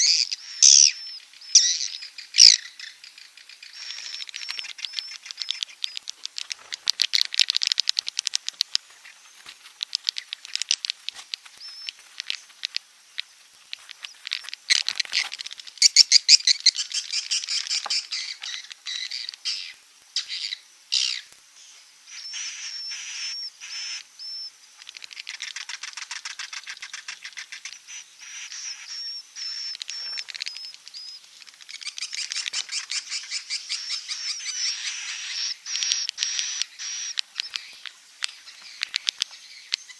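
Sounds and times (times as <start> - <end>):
swiftlet clicking and twittering: 0.2 - 20.4, 24.8 - 39.9.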